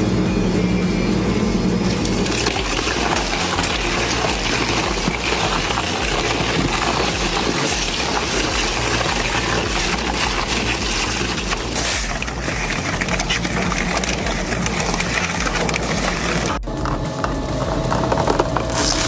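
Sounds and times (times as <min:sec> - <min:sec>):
metal shredder grinding tires: 0:00.0 - 0:19.0.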